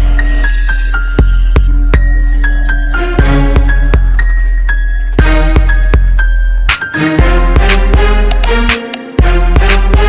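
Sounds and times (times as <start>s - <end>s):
electronic beat with bass and synth: 0.0s - 10.0s.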